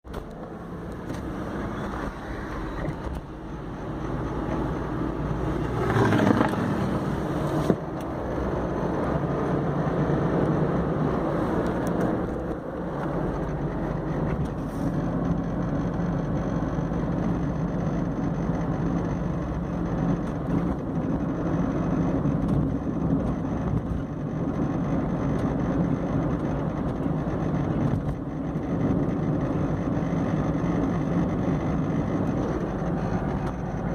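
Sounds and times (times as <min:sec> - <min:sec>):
car engine and road noise: 0:00.0 - 0:33.9
grinding squeaking whine: 0:00.1 - 0:33.9.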